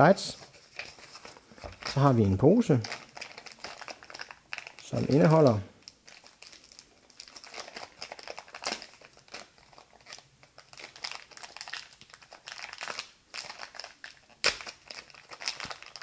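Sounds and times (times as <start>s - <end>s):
plastic bag crinkling: 0.3s - 16.0s.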